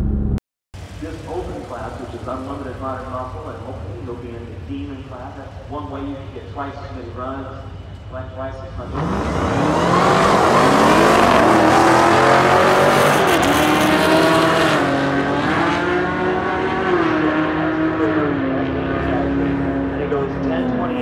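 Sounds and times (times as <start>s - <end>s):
drag car engines accelerating: 0.8s - 21.0s.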